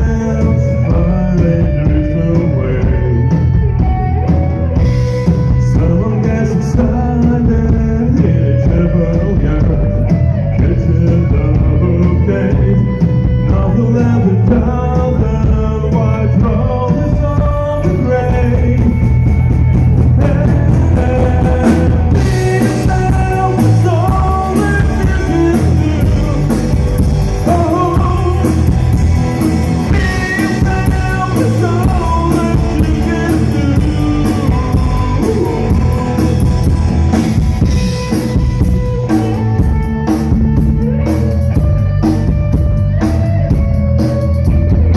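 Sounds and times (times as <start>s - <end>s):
person singing: 0.0s - 4.0s, 5.4s - 19.4s, 20.0s - 40.2s
drum kit beat: 0.0s - 44.9s
rock guitar: 0.0s - 44.9s.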